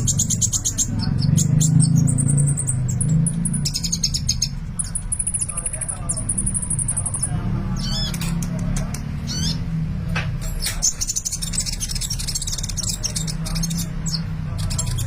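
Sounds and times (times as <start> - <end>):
bird chirping and twittering: 0.0 - 15.0.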